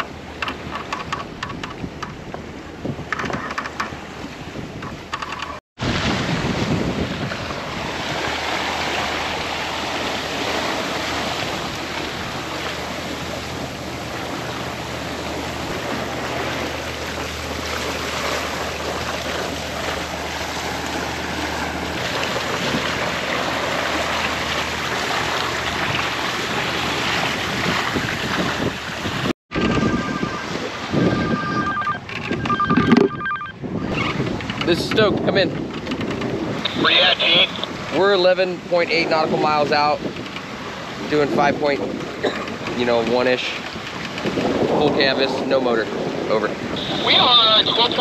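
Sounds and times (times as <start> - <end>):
sea water rushing around boat: 0.0 - 48.0
wind buffeting microphone: 0.0 - 48.0.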